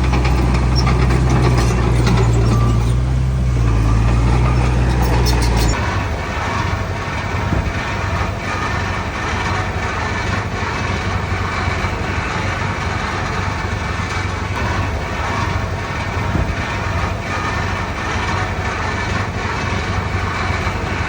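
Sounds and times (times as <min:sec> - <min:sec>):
heavy diesel machinery drone: 0:00.0 - 0:21.0.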